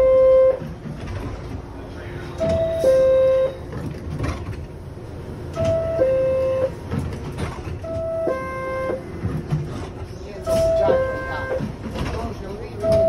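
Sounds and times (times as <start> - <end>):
low station rumble: 0.0 - 13.0.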